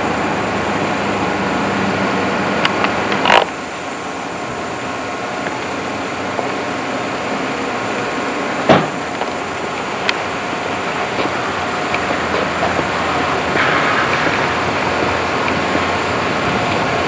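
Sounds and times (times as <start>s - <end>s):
moving vehicle noise: 0.0s - 17.0s.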